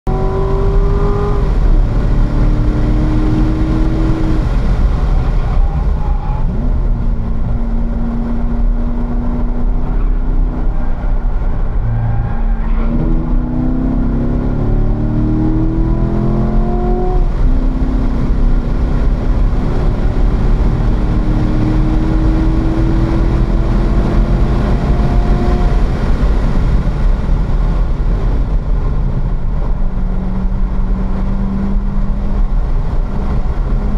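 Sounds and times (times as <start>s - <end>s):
road noise: 0.0s - 33.9s
car engine revving: 0.1s - 33.9s
wind noise: 0.1s - 33.9s.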